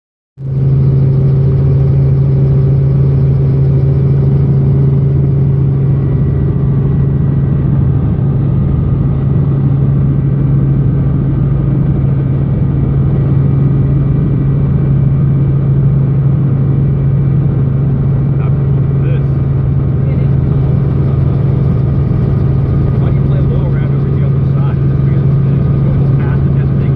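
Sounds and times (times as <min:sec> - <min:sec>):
helicopter engine and rotors drone: 0:00.4 - 0:26.9.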